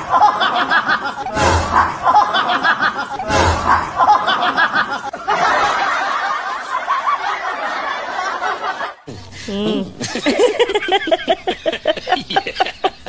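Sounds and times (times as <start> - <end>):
human laughter: 0.0 - 13.0.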